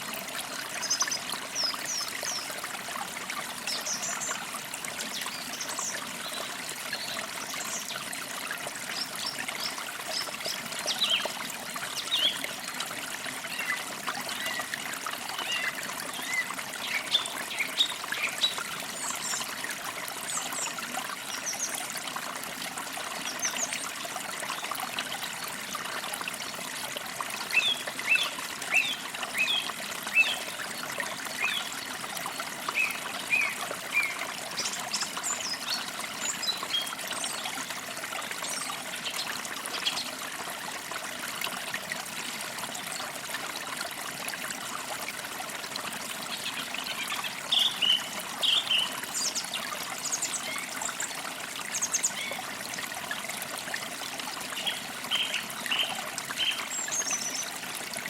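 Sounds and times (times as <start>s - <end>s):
creek trickling over stones: 0.0s - 58.0s.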